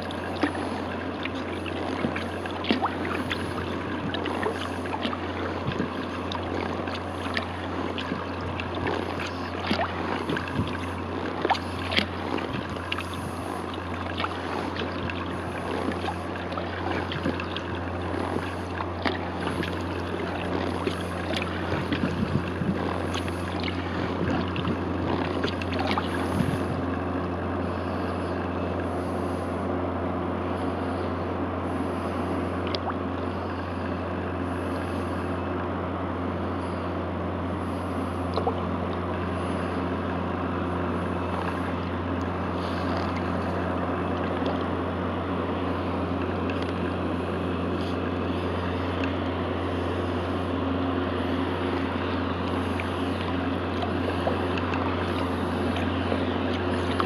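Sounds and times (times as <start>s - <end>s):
paddle strokes splashing water: 0.0s - 29.7s, 37.6s - 57.0s
motor boat engine drone: 0.0s - 57.0s.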